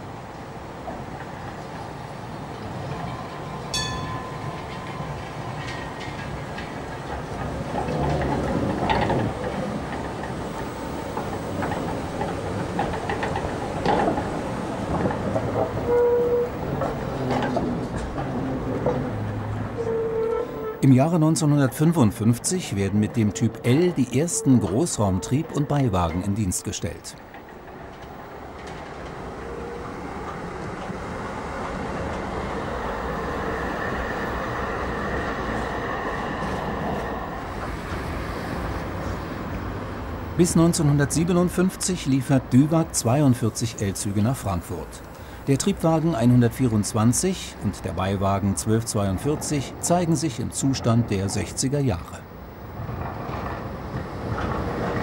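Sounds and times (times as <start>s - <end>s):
tram rolling along track: 0.0s - 55.0s
wheels clicking over rail joints: 0.3s - 55.0s.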